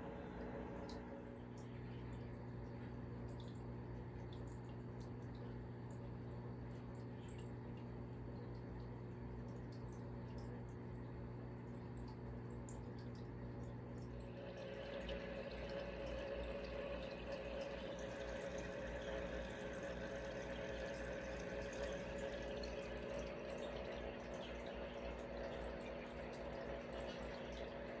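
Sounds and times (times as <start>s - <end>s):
filter low hum: 0.0s - 28.0s
water trickling and splashing: 0.9s - 28.0s.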